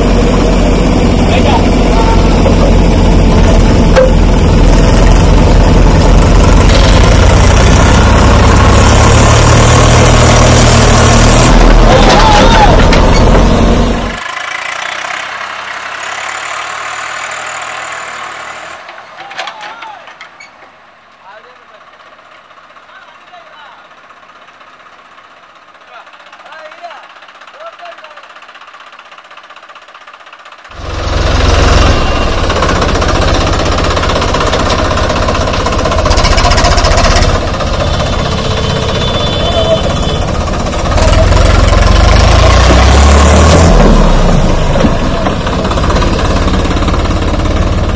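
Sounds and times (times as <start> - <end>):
diesel engines running: 0.0 - 47.9.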